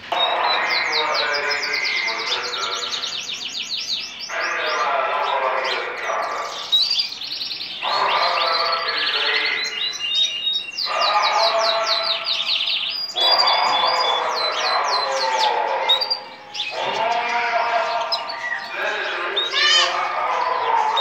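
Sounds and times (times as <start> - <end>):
canary singing trills: 0.0 - 21.0.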